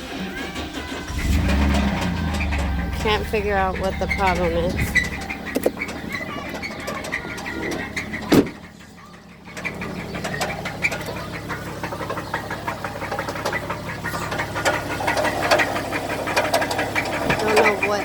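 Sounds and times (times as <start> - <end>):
engine idling with rhythmic knock: 0.0 - 18.0.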